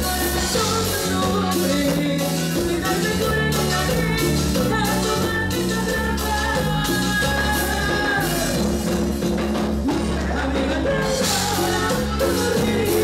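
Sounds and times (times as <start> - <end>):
man singing backing vocals: 0.0 - 8.8, 9.9 - 13.0
woman singing: 0.0 - 8.8, 10.0 - 13.0
live band playing latin pop: 0.0 - 13.0.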